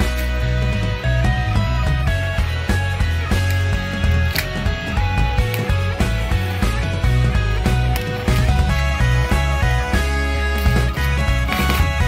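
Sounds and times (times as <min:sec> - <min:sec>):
guitar music with beat and bass: 0:00.0 - 0:12.0.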